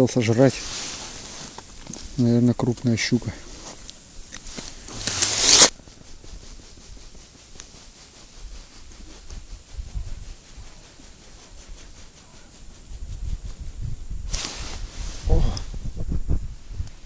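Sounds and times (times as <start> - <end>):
loud rustle: 0.0 - 15.8
hands scratching and rubbing: 0.3 - 15.3.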